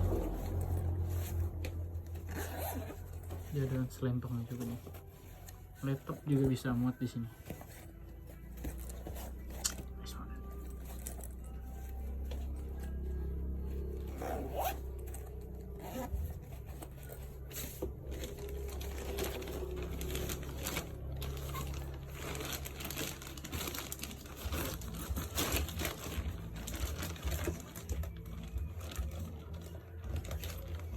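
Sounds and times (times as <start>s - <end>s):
zipper pulls: 0.0s - 3.6s, 7.4s - 30.9s
fabric bag rustling: 0.0s - 30.9s
low steady hum: 0.0s - 30.9s.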